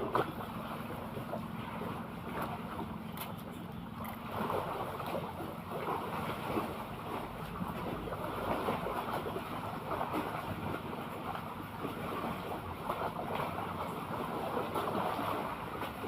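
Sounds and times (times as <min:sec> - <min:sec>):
sea water lapping and splashing: 0:00.0 - 0:16.0.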